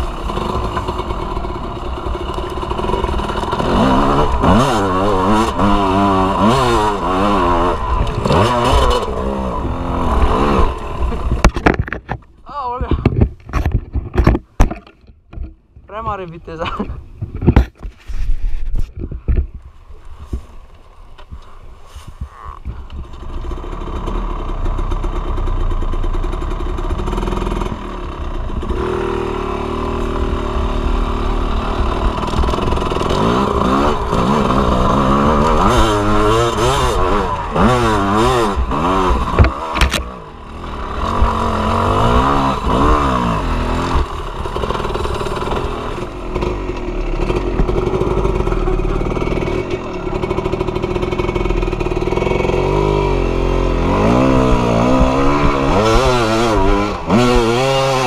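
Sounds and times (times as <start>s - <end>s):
two-stroke motorcycle engine revving: 0.0s - 11.6s, 22.3s - 58.0s.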